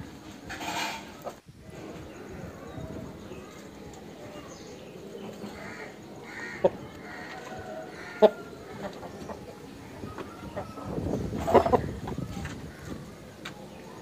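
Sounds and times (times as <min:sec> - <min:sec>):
outdoor background noise: 0:00.0 - 0:14.0
harsh bird calls: 0:01.0 - 0:14.0.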